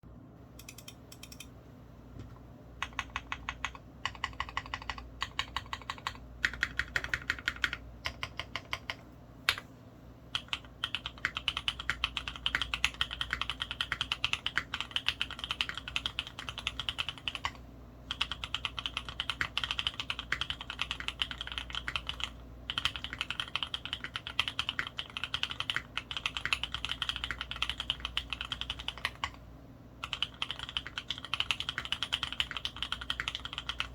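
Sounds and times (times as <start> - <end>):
mechanical keyboard typing: 0.6 - 1.5, 2.8 - 9.7, 10.3 - 29.4, 30.0 - 33.9.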